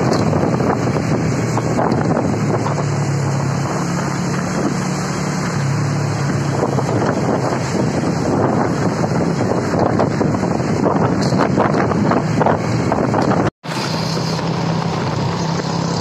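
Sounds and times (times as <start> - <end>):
low traffic engine drone: 0.0 - 16.0
wind rushing over microphone: 0.0 - 16.0.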